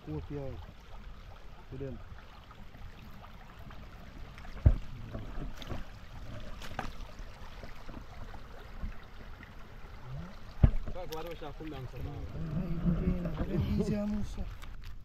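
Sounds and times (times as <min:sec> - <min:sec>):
stream water splashing: 0:00.0 - 0:15.0.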